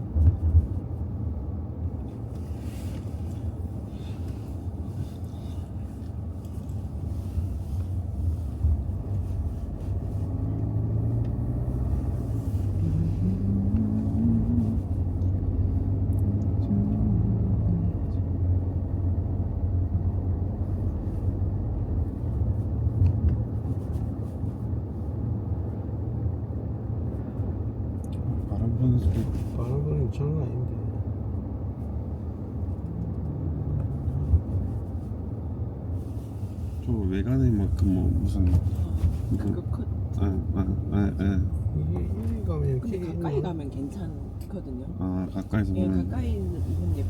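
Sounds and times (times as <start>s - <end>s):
car driving rumble: 0.0s - 47.0s.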